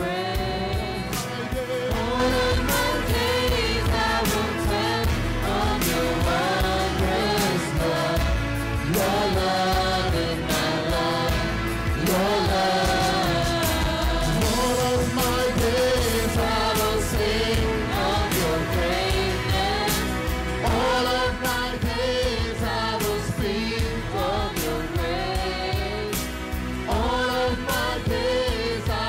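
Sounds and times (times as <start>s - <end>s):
electric keyboards: 0.0s - 29.0s
group of singers singing: 0.0s - 29.0s
percussion hits: 1.2s - 25.4s.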